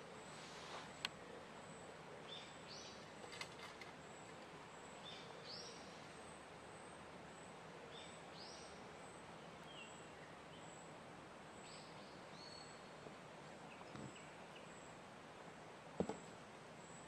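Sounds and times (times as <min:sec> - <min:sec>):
soft forest hiss: 0:00.0 - 0:17.0.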